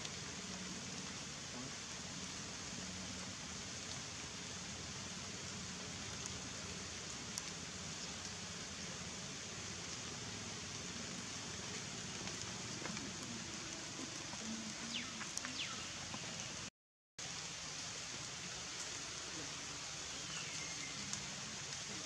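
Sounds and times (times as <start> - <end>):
outdoor ambience hiss: 0.0 - 22.0.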